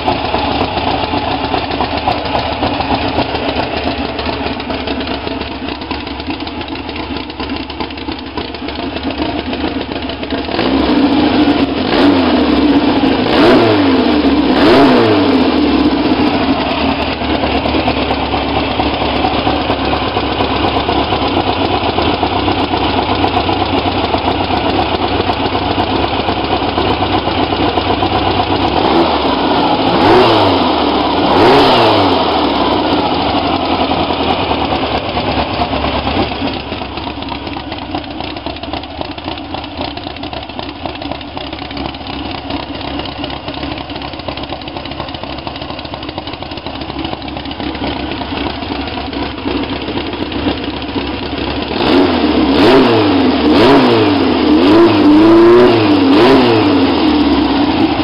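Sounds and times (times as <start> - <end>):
air-cooled engine revving and idling: 0.0 - 58.0.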